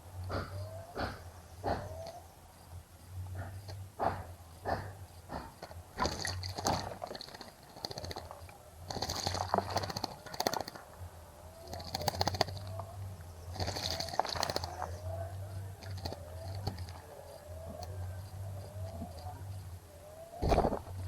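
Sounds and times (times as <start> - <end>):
steady low hum: 0.0 - 21.0
birds splashing and fluttering: 3.5 - 21.0.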